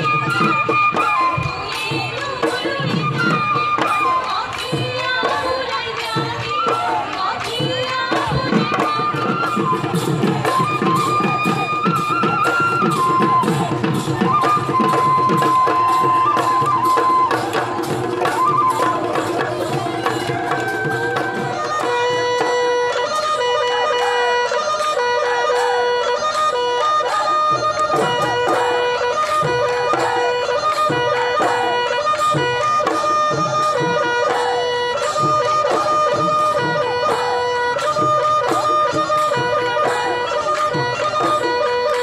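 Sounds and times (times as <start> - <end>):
dhol drums beaten fast: 0.0 - 42.0
held melody line: 0.0 - 42.0.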